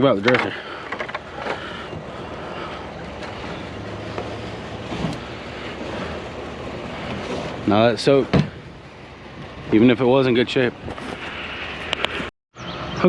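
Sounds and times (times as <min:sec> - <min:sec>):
vehicle rumble and hiss: 0:00.0 - 0:13.0.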